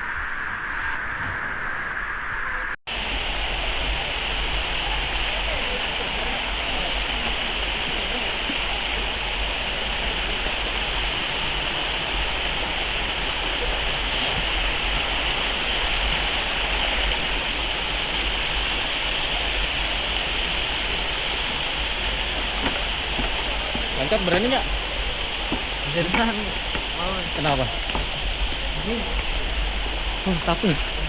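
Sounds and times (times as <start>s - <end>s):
waterfall roaring: 2.9s - 31.0s.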